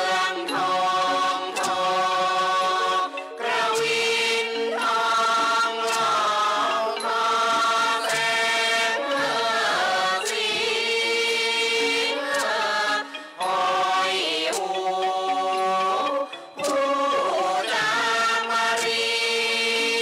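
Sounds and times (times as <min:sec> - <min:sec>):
voices holding wavering notes: 0:00.0 - 0:20.0.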